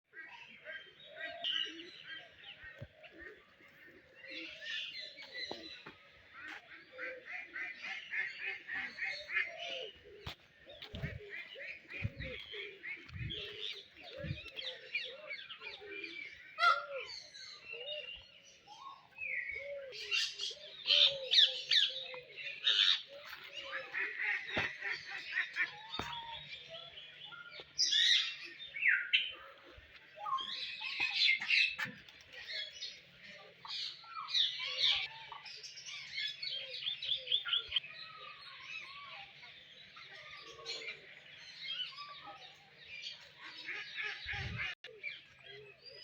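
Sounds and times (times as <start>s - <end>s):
birds chirping and calling: 0.1s - 46.0s.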